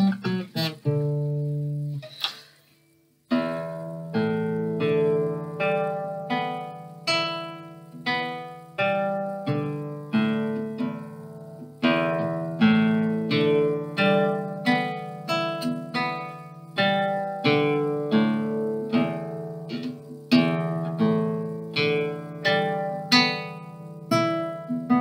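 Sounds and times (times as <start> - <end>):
classical guitar fingerstyle: 0.0 - 25.0.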